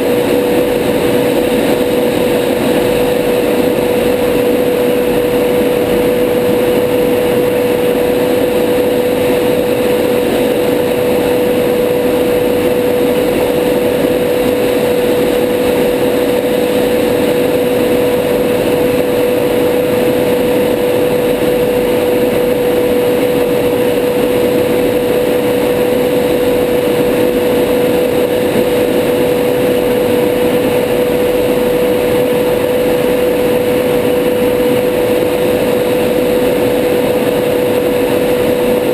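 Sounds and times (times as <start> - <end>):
jet cockpit engine and airflow rush: 0.0 - 38.9
steady hum: 0.0 - 38.9.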